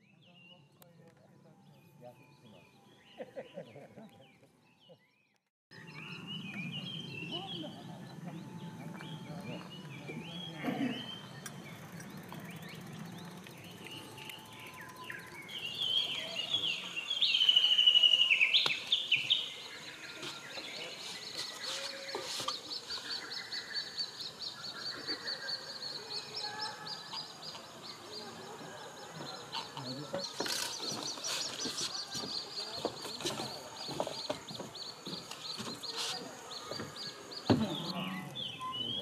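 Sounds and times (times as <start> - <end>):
bird song with fast trills: 0.0 - 39.0
birds singing and calling: 0.0 - 39.0.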